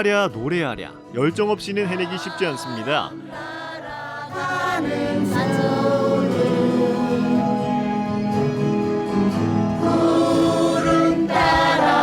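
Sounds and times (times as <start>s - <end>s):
group of voices singing: 1.8s - 12.0s.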